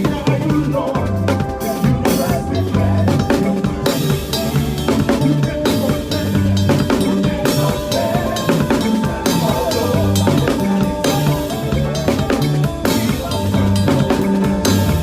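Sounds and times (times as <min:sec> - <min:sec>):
band with bass and keyboard: 0:00.0 - 0:15.0
drum kit playing groove: 0:00.0 - 0:15.0.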